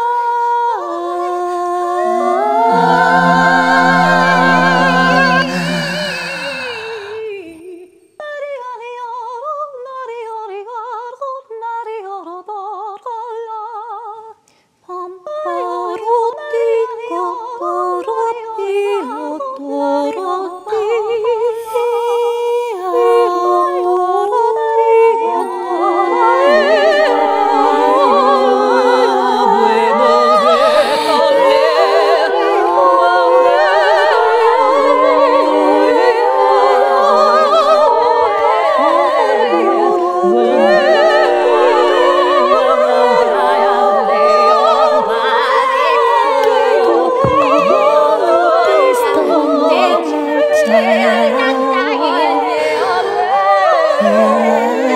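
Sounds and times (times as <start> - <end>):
wordless a cappella singing: 0.0 - 54.9.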